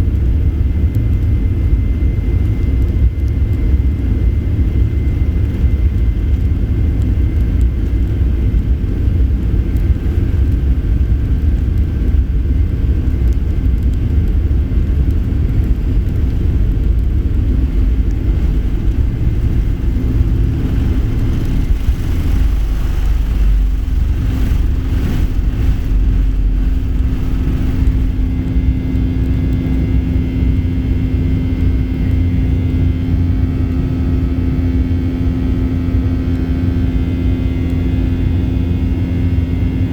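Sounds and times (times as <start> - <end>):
airplane cabin engine rumble: 0.0 - 39.9
steady hum: 0.0 - 39.9.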